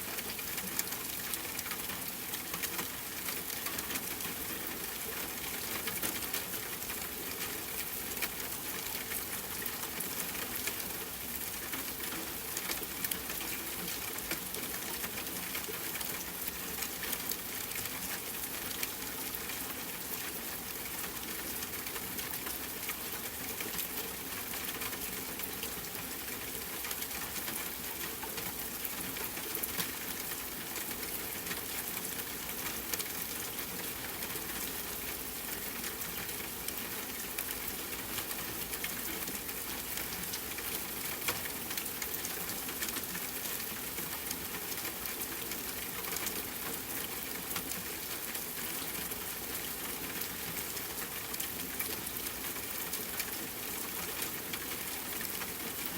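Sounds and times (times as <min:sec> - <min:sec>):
rain pattering on tent fabric: 0:00.0 - 0:55.9.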